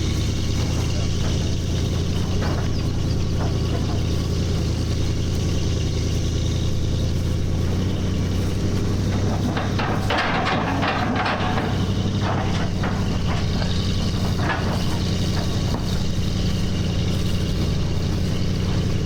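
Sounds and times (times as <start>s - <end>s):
clattering: 0.0s - 19.0s
engine running: 0.0s - 19.0s.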